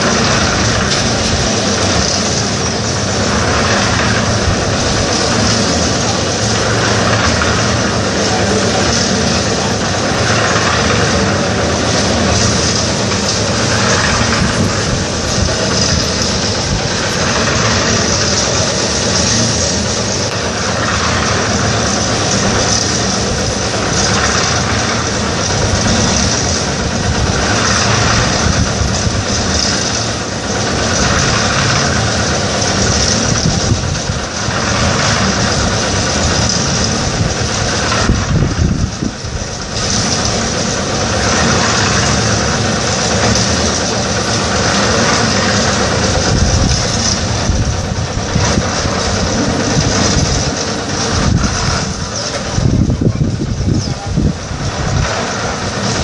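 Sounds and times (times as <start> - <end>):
concrete mixer running: 0.0 - 56.0.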